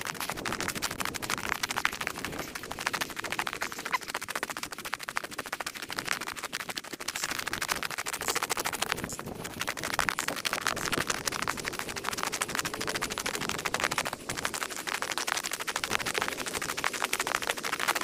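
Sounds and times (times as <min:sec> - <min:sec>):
rapid rattle of clicks: 0:00.0 - 0:18.0.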